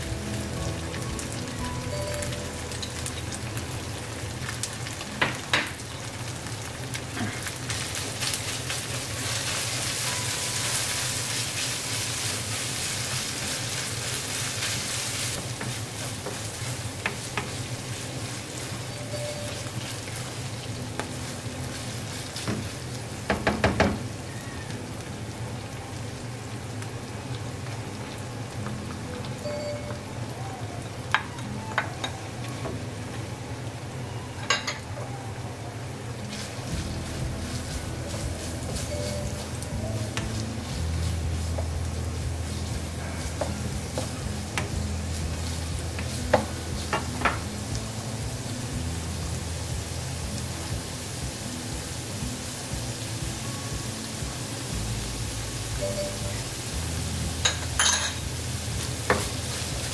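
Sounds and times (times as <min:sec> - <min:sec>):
meat sizzling in a pan: 0:00.0 - 0:29.4, 0:36.2 - 0:59.9.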